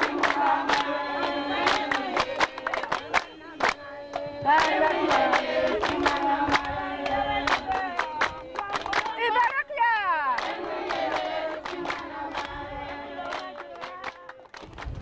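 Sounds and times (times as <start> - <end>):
group singing together: 0.0 - 14.5.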